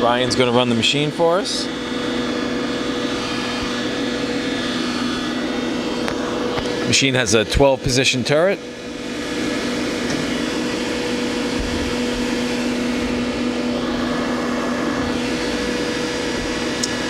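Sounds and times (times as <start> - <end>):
lathe axis drive whine: 0.0 - 17.0
machine running hum: 0.0 - 17.0.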